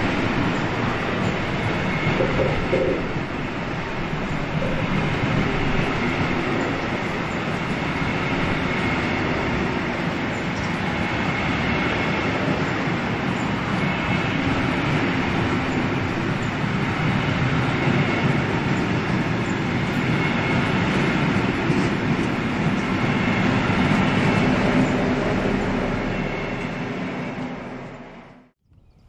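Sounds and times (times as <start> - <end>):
train wheels rumbling on rails: 0.0 - 28.5
diesel locomotive engine running: 0.0 - 28.6.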